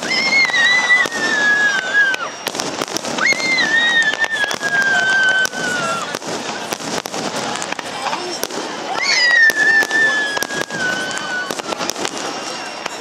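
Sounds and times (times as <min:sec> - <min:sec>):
descending firework whistles: 0:00.0 - 0:13.0
firework bangs and crackling: 0:00.0 - 0:13.0.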